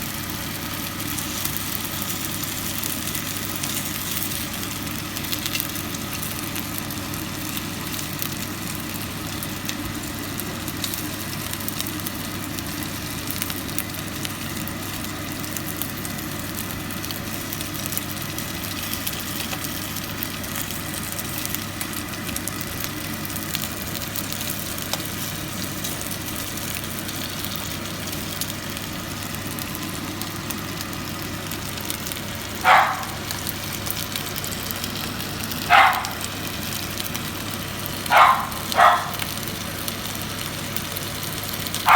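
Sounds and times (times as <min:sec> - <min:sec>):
chicken frying in hot oil: 0:00.0 - 0:41.9.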